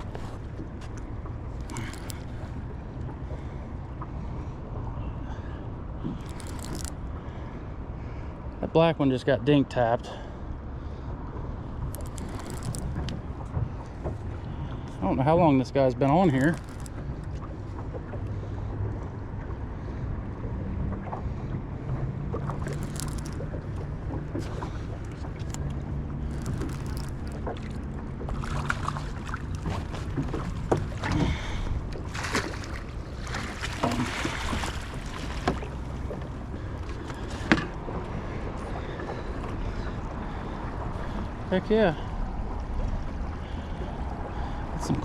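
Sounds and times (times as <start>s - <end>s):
boat motor humming: 0.0s - 8.6s, 10.3s - 45.0s
water noise: 0.0s - 8.6s, 10.6s - 45.0s
wind: 0.0s - 45.0s.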